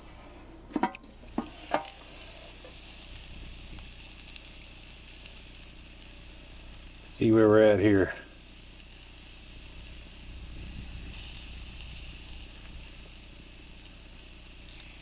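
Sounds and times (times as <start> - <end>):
low steady hum: 0.0 - 15.0
meat sizzling on a grill: 1.1 - 15.0.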